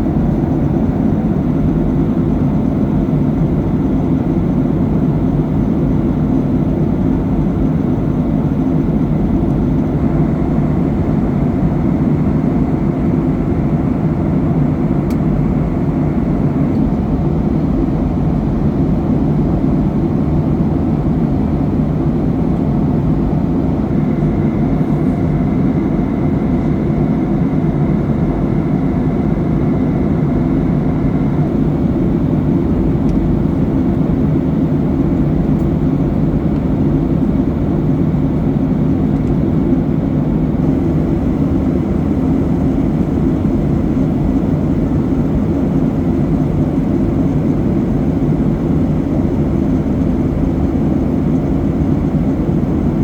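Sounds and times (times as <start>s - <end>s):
airliner cabin engine roar: 0.0s - 53.0s.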